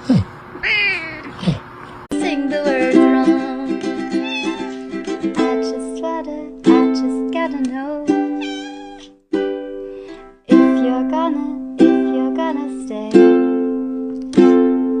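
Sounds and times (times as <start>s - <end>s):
strummed ukulele chords: 2.1s - 15.0s.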